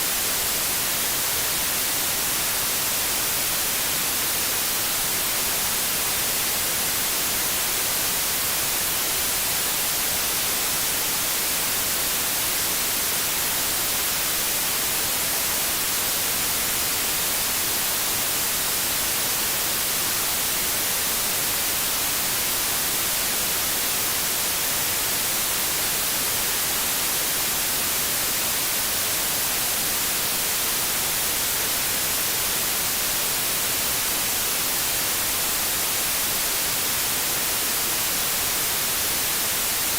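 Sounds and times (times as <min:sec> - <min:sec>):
tv static hiss: 0:00.0 - 0:39.9.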